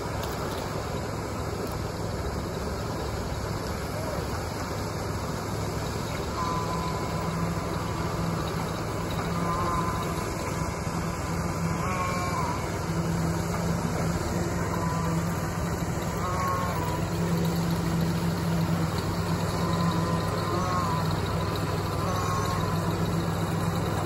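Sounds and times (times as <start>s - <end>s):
power trowel engine hum: 0.0s - 24.0s.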